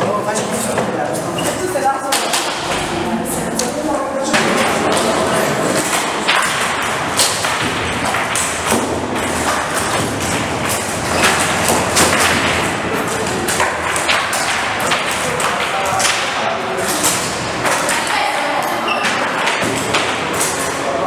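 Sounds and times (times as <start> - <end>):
voices chattering: 0.0 - 7.5, 9.3 - 21.0
foosball knocks and clacks: 2.1 - 3.0, 4.3 - 20.8.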